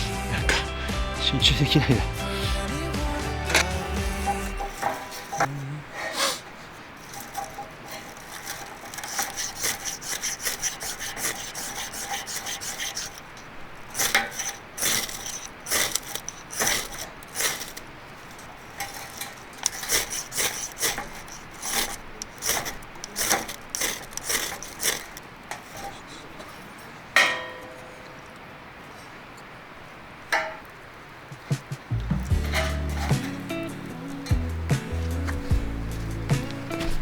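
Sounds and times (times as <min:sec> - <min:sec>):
scraping strokes: 0:02.2 - 0:26.6, 0:31.6 - 0:37.0.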